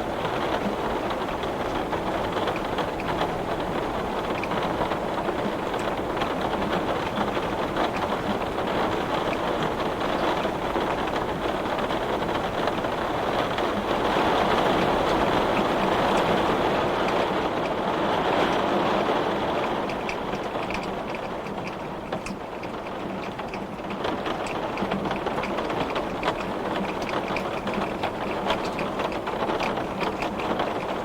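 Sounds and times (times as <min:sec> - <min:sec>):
heavy rain on window glass: 0:00.0 - 0:31.0.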